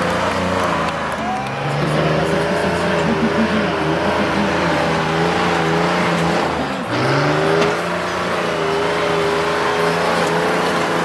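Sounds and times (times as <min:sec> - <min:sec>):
diesel truck engine revving hard: 0:00.0 - 0:11.0.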